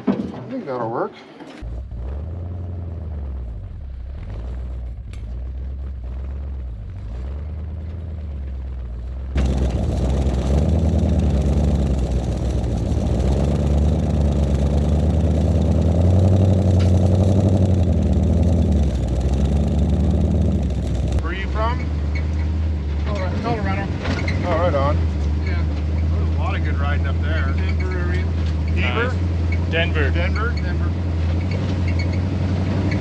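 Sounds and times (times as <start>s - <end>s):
truck engine running at low speed: 1.5s - 33.0s.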